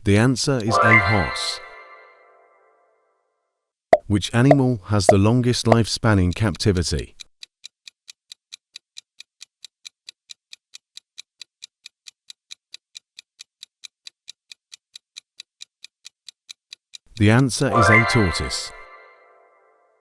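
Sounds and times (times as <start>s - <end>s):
clock ticking: 0.0s - 2.0s, 4.0s - 19.6s.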